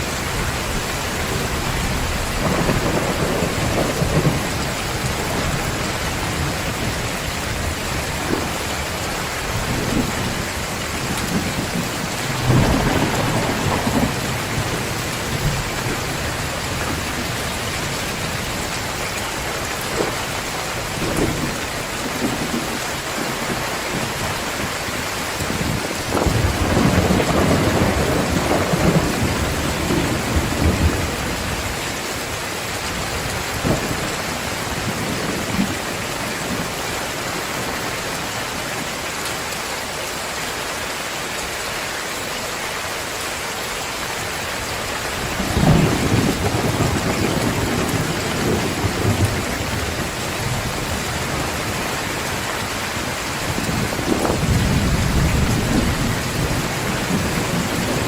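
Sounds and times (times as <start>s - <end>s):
thunder rumbling: 0.0s - 31.9s, 32.9s - 38.4s, 45.1s - 58.0s
heavy rain pouring: 0.0s - 58.0s.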